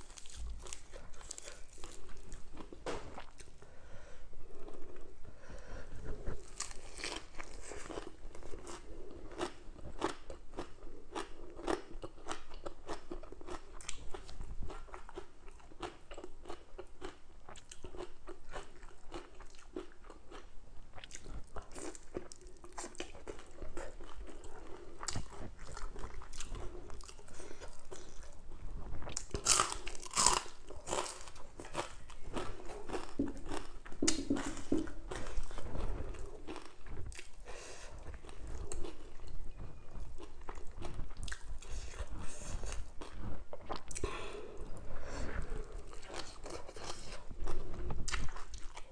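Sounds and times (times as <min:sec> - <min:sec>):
person chewing crunchy food: 0:00.0 - 0:03.6, 0:05.9 - 0:48.9.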